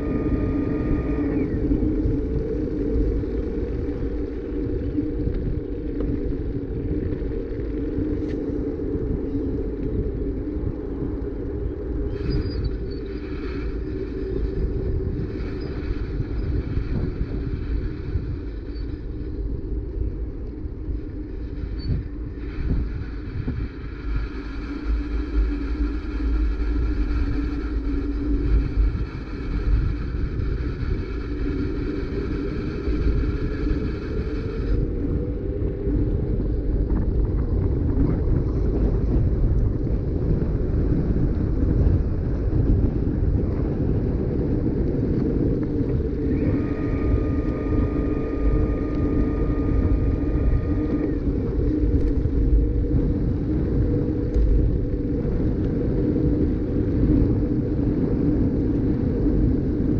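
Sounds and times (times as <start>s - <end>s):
bicycle tyres rumbling on asphalt: 0.0s - 59.9s
faint high whine: 0.0s - 59.9s
wind on microphone: 0.0s - 59.9s.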